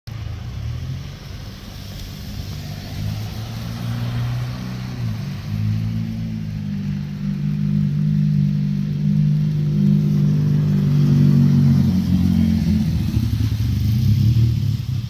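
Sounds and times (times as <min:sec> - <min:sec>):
vehicle engine humming: 0:00.1 - 0:15.0.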